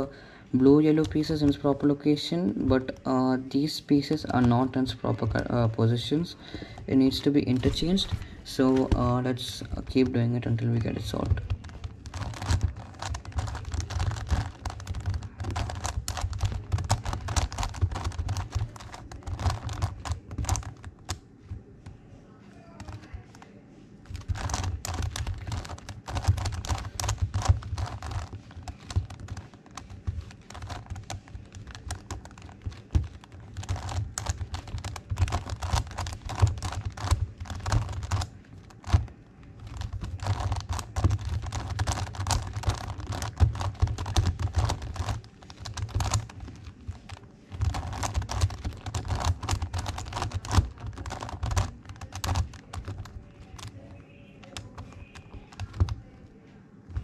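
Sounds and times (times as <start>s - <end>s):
plastic puzzle clicking: 4.0s - 21.2s, 24.0s - 56.0s.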